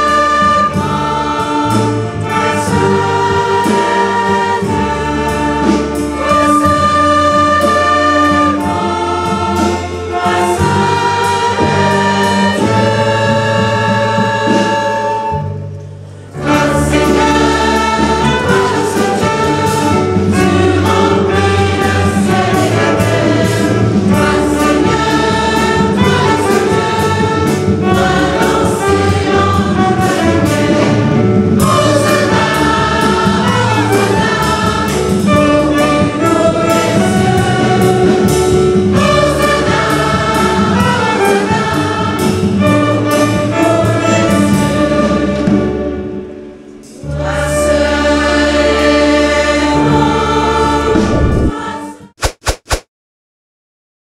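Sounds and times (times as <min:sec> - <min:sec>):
choir singing: 0:00.0 - 0:15.6, 0:16.3 - 0:52.2.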